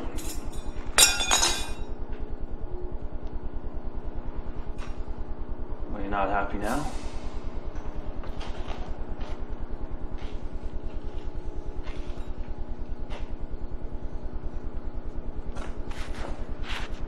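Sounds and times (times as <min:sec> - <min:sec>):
low mechanical pulsing with hum: 0:00.0 - 0:17.0.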